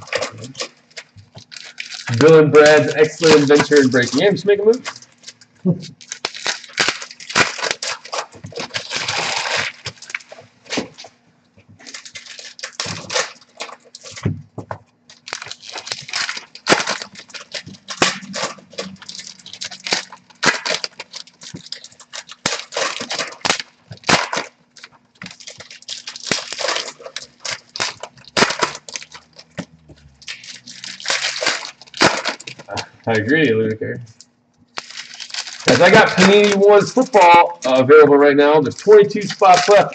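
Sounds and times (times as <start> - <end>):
wrappers crinkling and tearing: 0.0 - 11.2, 11.8 - 33.4, 34.1 - 39.9.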